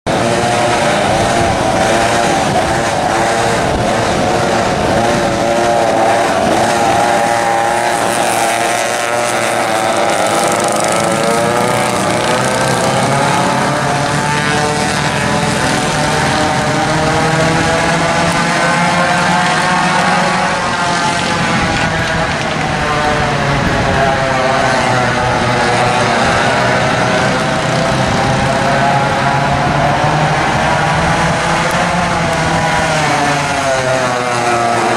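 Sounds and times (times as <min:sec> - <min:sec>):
kart engines revving: 0:00.0 - 0:34.9.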